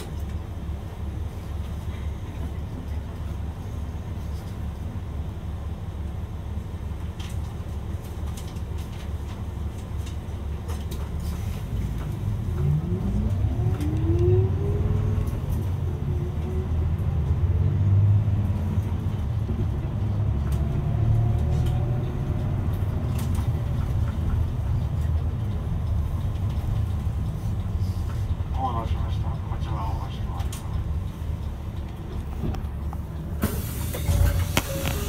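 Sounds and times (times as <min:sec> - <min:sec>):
bus engine: 0:00.0 - 0:35.0
road rumble: 0:00.0 - 0:35.0.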